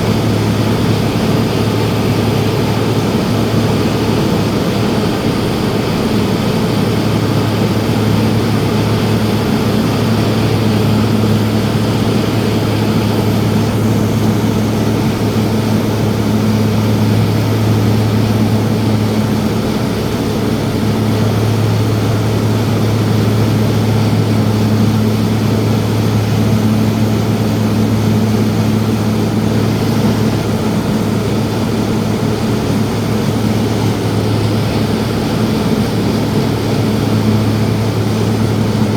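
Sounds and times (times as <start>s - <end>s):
propeller airplane engine drone: 0.0s - 38.9s.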